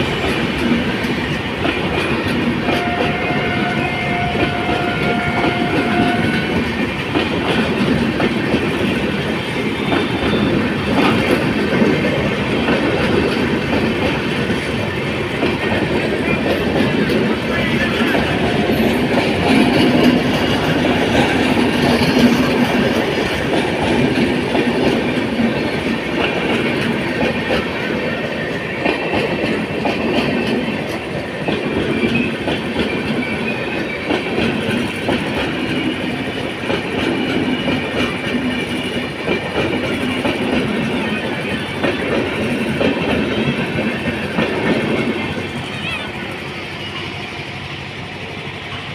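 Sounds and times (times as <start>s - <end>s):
train wheels clattering over rail joints: 0.0s - 45.8s
train rumbling past: 0.0s - 48.9s.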